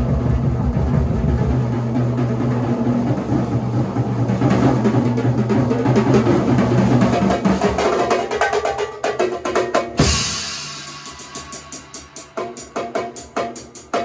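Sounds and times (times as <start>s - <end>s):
drum kit playing: 0.0s - 14.0s.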